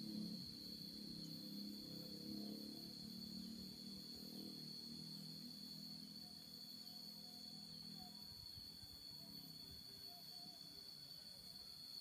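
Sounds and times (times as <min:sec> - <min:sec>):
crickets droning: 0:00.0 - 0:12.0.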